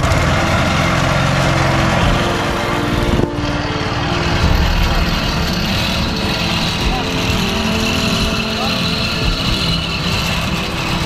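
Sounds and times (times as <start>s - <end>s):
small boat motor running: 0.0s - 11.0s.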